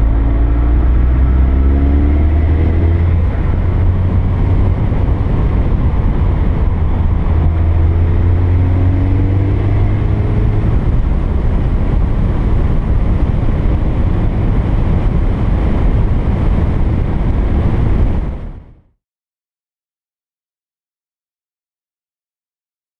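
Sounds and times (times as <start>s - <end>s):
car engine and tyre noise: 0.0s - 18.9s
wind rumble: 0.0s - 18.9s.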